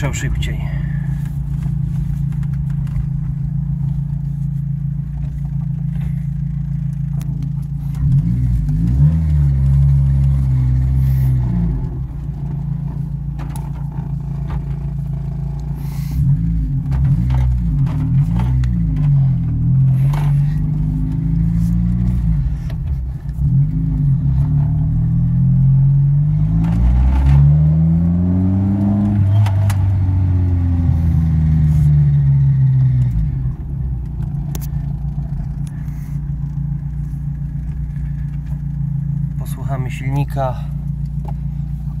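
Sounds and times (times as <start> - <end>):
car engine revving and idling: 0.0 - 42.0.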